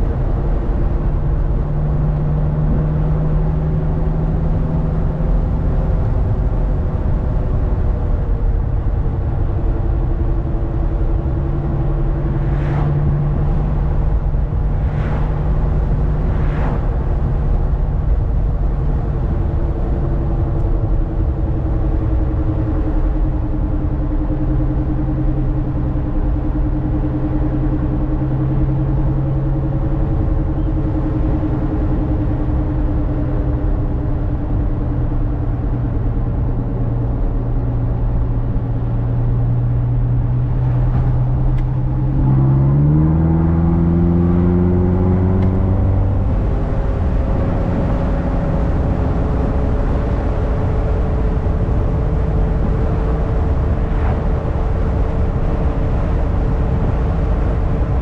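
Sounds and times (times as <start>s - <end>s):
tyre and road noise: 0.0s - 25.1s, 25.8s - 58.0s
car engine cruising and accelerating: 0.0s - 58.0s.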